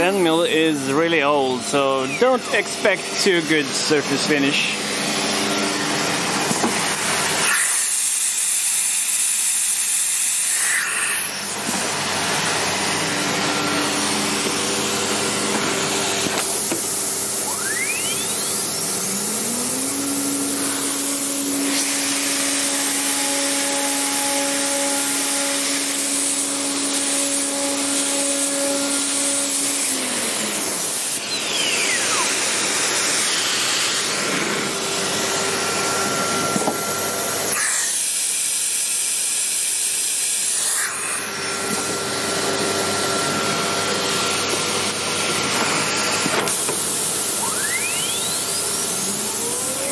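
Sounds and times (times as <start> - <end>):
machine whine: 0.0 - 49.9
vacuum pump hiss: 0.0 - 49.9.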